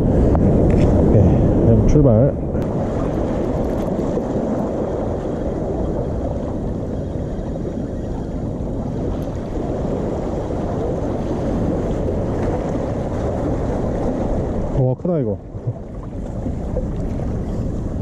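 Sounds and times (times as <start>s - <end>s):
sea water washing among concrete: 0.0s - 18.0s
wind rumbling on microphone: 0.0s - 18.0s.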